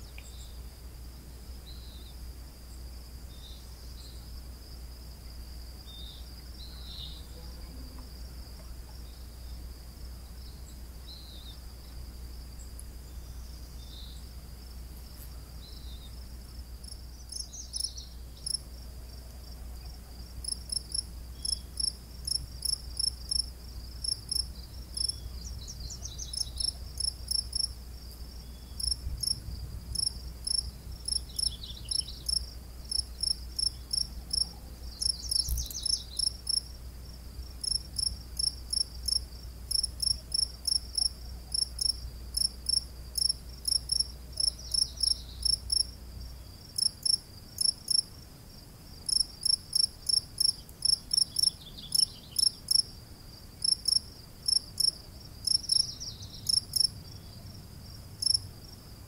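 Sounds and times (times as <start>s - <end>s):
cricket chirping: 0.0s - 59.0s.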